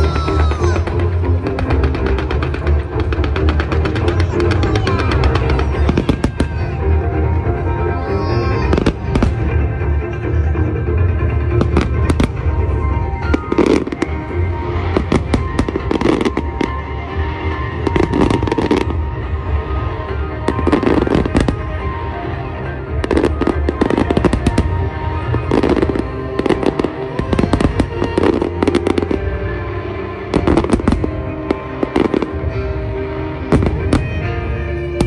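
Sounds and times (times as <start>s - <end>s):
fireworks bangs and crackles: 0.0s - 10.2s, 10.8s - 35.0s
show music: 0.0s - 35.0s.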